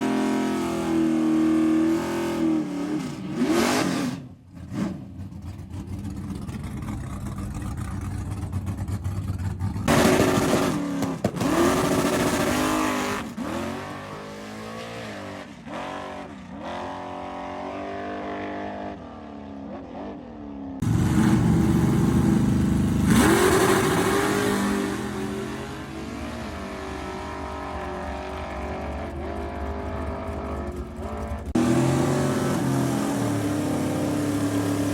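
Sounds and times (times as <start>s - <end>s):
car engine revving and accelerating: 0.0s - 34.9s.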